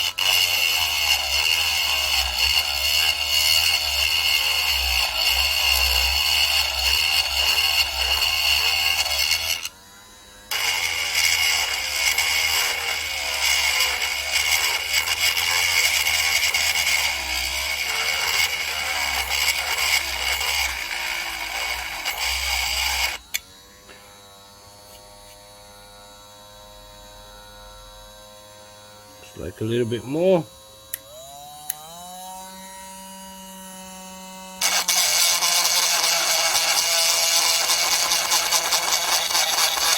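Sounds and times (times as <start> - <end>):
rotary tool grinding metal: 0.0 - 39.9.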